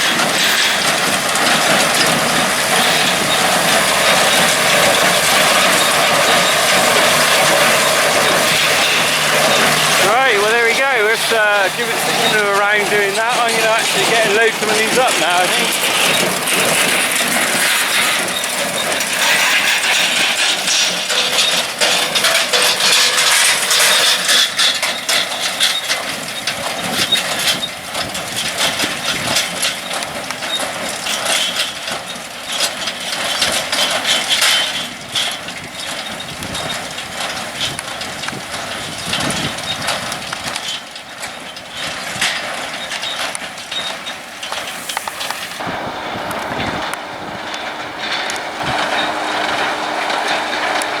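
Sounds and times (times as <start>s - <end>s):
farm machinery rattles and knocks: 0.0s - 51.0s
tractor engine running: 0.0s - 51.0s.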